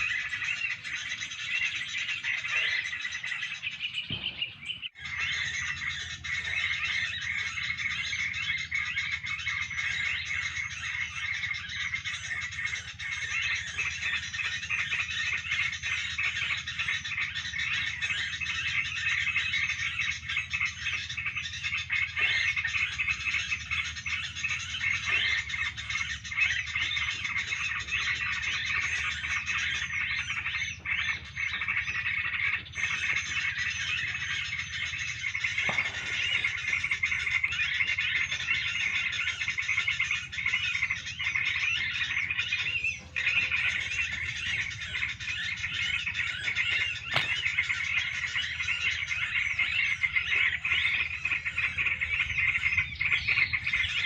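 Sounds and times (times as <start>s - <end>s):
small birds chattering and chirping: 0.0s - 54.0s.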